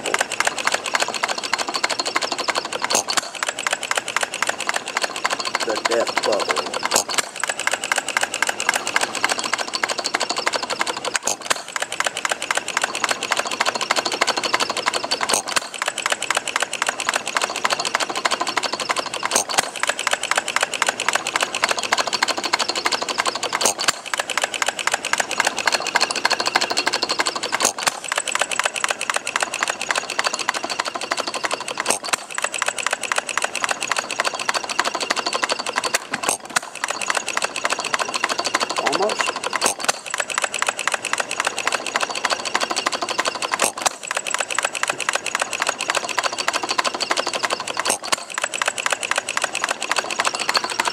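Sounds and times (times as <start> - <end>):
small engine clattering: 0.0 - 50.9.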